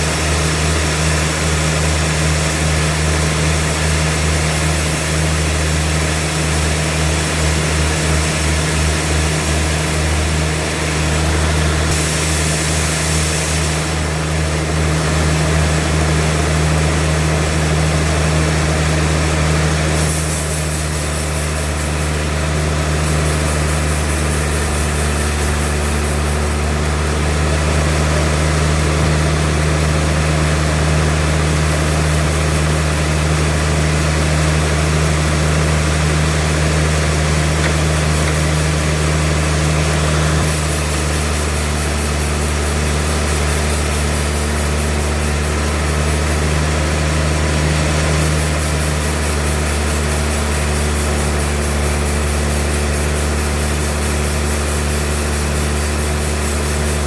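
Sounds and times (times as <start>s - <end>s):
sawmill machine humming: 0.0s - 57.0s
high hiss: 3.6s - 14.9s, 19.9s - 28.2s, 29.6s - 57.0s.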